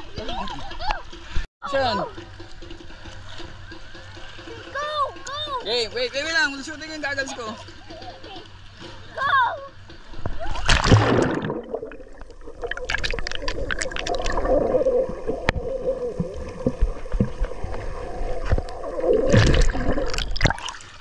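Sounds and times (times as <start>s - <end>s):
low rumble of moving water: 0.0s - 21.0s
water splashing from swimming: 0.0s - 21.0s.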